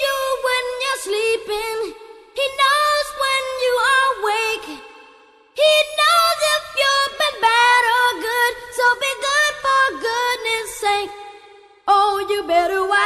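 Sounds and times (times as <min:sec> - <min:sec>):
synthetic singing voice: 0:00.0 - 0:04.8, 0:05.6 - 0:11.2, 0:11.9 - 0:13.0.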